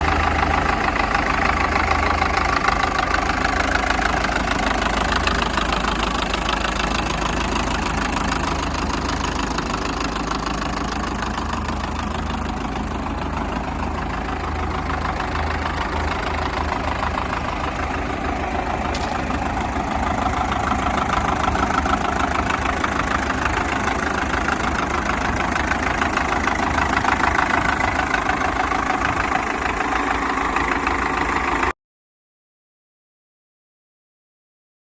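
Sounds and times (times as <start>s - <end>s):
tractor diesel engine idling: 0.0s - 31.8s.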